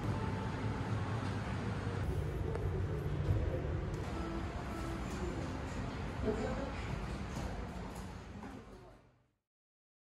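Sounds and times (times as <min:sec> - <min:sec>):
indoor hum and hiss: 0:00.0 - 0:09.3.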